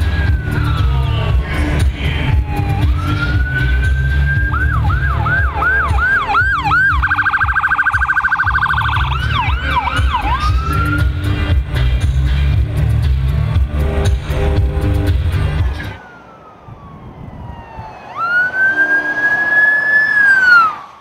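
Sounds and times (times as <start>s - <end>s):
police siren: 0.0s - 11.6s, 14.8s - 21.0s.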